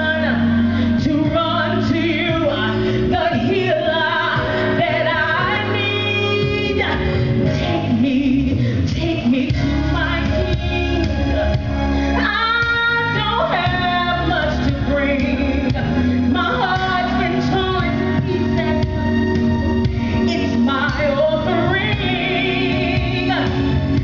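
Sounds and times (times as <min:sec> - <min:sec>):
instrumental backing: 0:00.0 - 0:24.0
woman singing into a microphone: 0:00.0 - 0:24.0.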